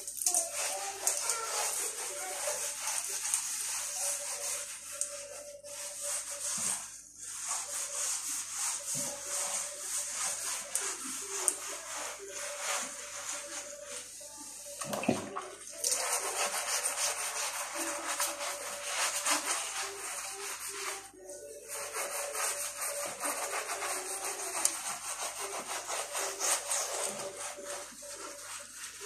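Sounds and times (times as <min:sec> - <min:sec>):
scrubbing tiles by hand: 0:00.0 - 0:29.0.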